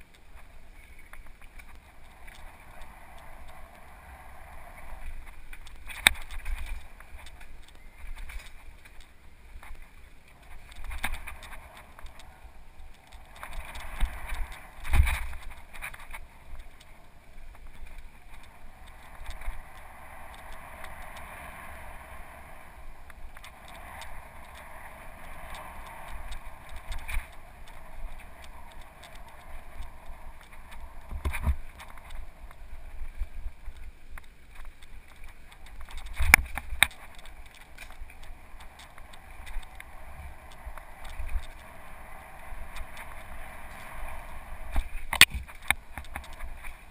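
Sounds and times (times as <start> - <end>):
wind and tyre noise: 0.0 - 46.9
bike knocking and rattling: 5.0 - 22.1, 22.7 - 46.9.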